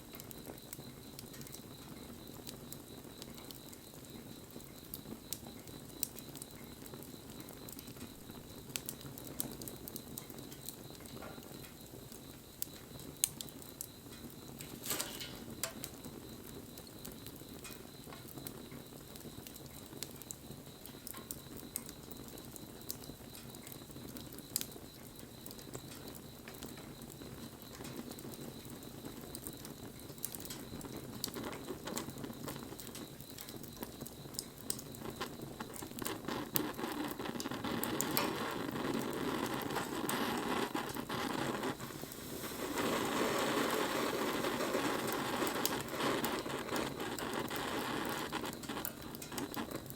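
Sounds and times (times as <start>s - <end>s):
bonfire crackling and popping: 0.0s - 49.9s.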